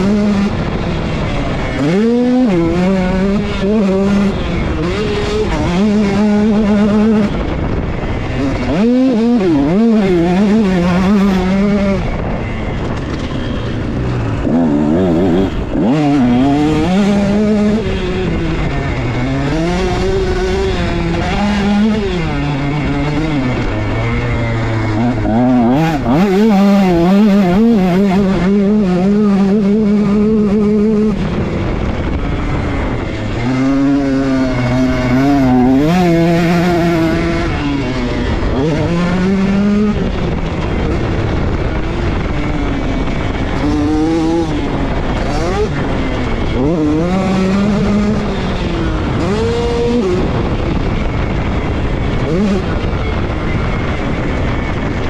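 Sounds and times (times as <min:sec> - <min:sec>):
motocross engine revving: 0:00.0 - 0:55.0
wind on microphone: 0:00.0 - 0:55.0.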